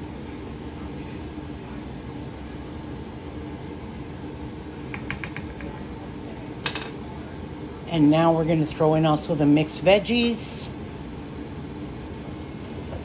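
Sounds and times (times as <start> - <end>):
fan-like hum: 0.0 - 13.0.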